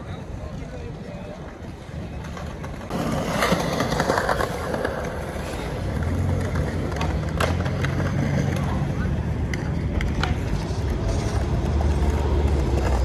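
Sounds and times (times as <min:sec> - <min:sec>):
skateboard wheels rolling: 0:00.0 - 0:13.0
skateboard clacks: 0:01.3 - 0:13.0.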